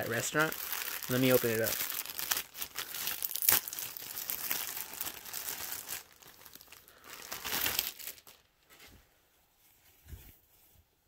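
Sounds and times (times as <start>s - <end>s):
plastic bag crinkling and rustling: 0.0s - 8.9s.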